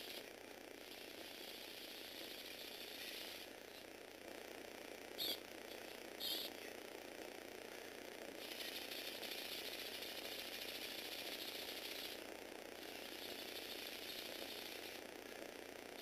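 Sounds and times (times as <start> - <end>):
high motor whir: 0.0 - 16.0.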